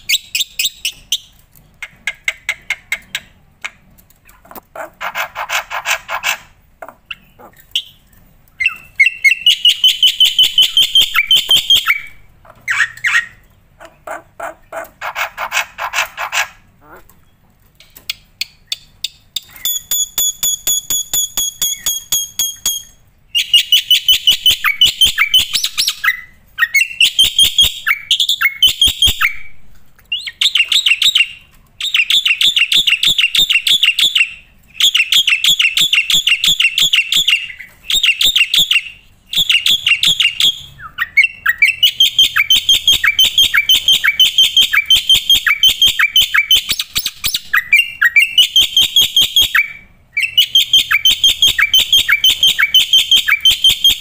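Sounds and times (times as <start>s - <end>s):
starling singing: 8.6s - 17.1s, 18.5s - 29.5s, 30.1s - 54.0s.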